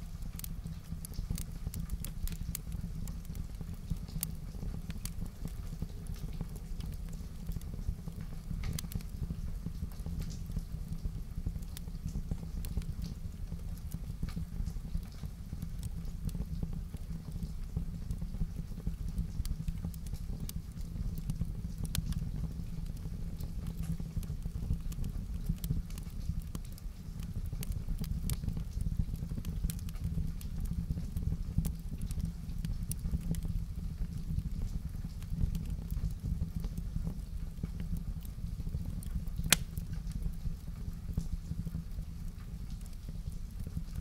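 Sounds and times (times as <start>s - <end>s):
fire crackling and popping: 0.0s - 44.0s
low fire rumble: 0.0s - 44.0s.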